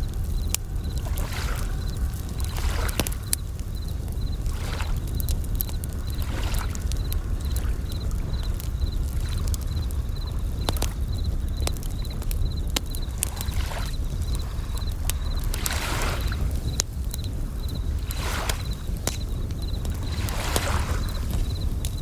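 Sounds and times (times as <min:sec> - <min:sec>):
campfire crackling and popping: 0:00.0 - 0:22.0
crickets chirping in trills: 0:00.0 - 0:22.0
low rumble of surf: 0:00.0 - 0:22.0
waves washing in: 0:00.0 - 0:22.0.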